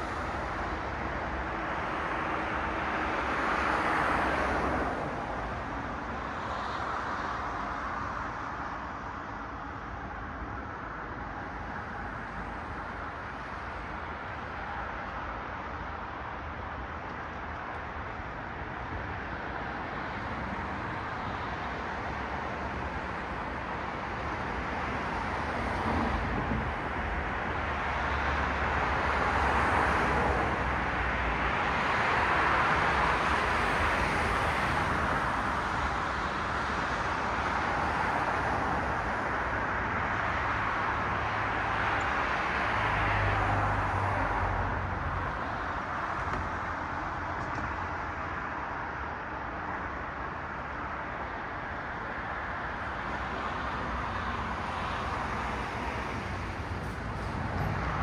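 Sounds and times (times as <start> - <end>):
cars passing: 11.3 - 58.0.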